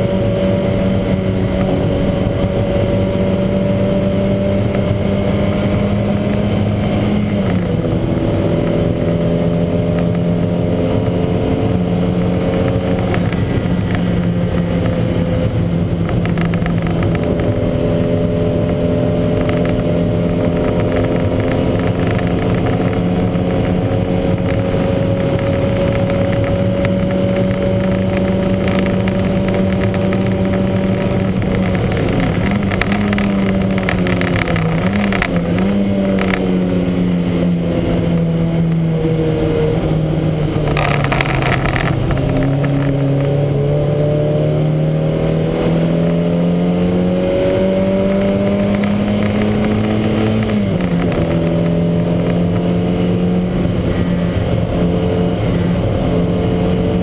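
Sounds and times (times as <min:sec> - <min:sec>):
race car engine running hard: 0:00.0 - 0:57.0.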